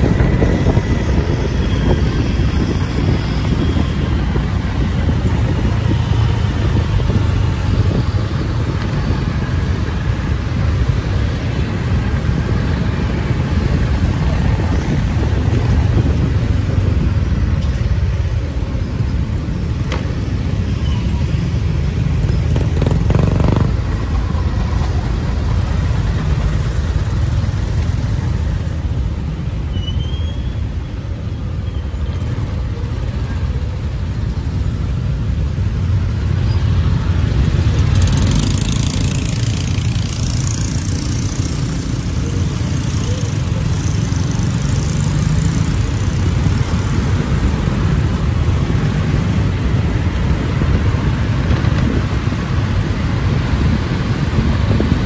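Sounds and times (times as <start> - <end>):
passing motorbikes and cars: 0.0 - 55.0.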